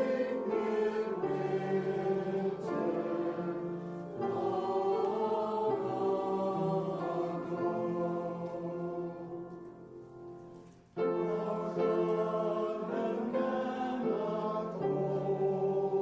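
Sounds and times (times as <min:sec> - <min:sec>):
choir singing held chords: 0:00.0 - 0:10.3, 0:11.0 - 0:16.0.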